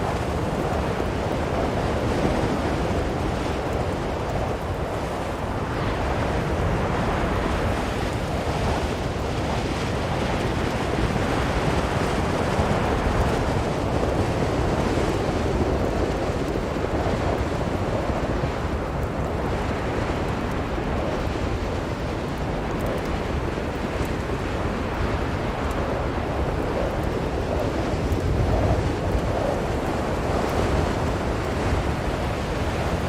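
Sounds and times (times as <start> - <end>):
strong blizzard wind: 0.0 - 33.0.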